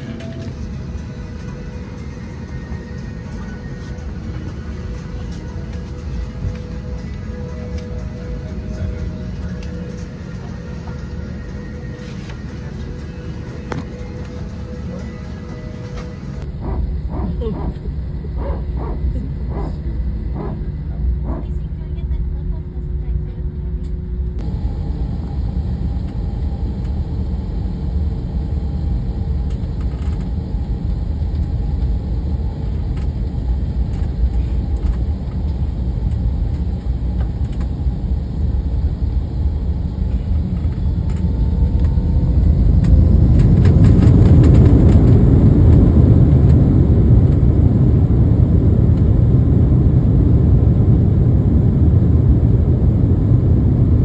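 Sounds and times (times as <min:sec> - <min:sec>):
airplane engine rumble: 0:00.0 - 0:54.0.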